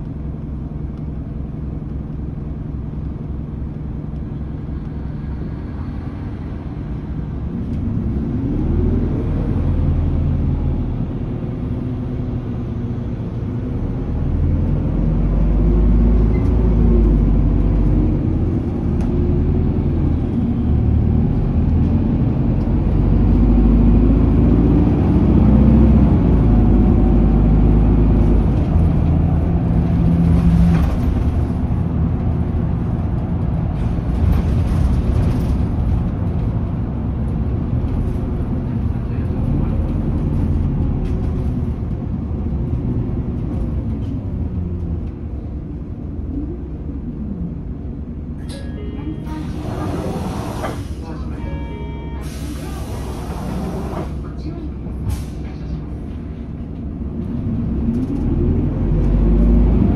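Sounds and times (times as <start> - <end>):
road and tyre noise: 0.0 - 59.9
bus diesel engine revving: 0.3 - 48.4, 49.2 - 51.4, 52.1 - 59.9.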